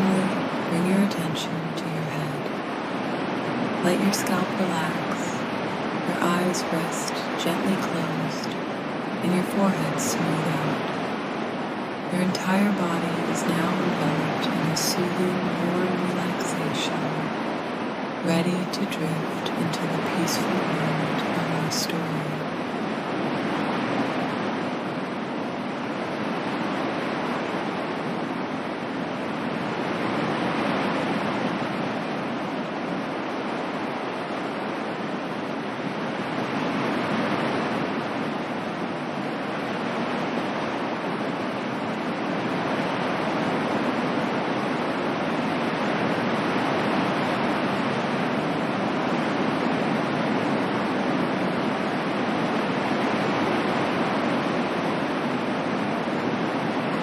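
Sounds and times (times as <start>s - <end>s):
ocean waves on a shore: 0.0s - 57.0s.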